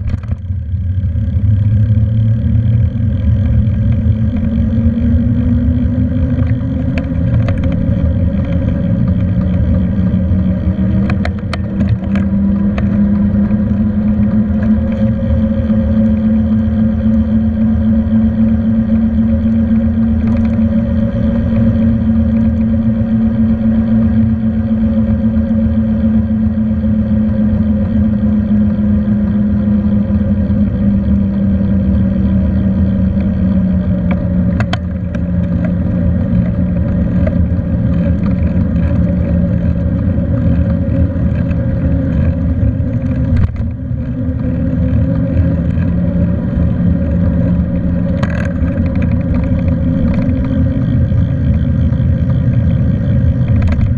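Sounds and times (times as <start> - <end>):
bicycle rolling on asphalt: 0.0 - 53.9.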